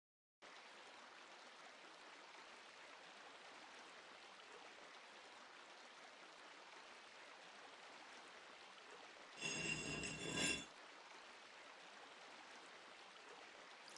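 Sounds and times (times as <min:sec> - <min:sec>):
faint steady hiss: 0:00.4 - 0:13.9.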